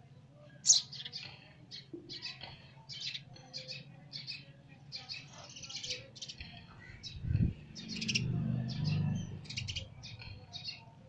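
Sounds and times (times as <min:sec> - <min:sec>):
sparrow chirping: 0:00.4 - 0:11.0.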